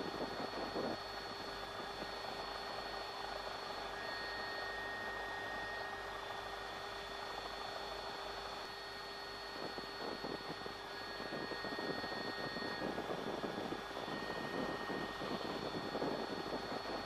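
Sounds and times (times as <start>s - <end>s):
aircraft engine drone: 0.0s - 17.0s
faint high whine: 0.0s - 17.0s.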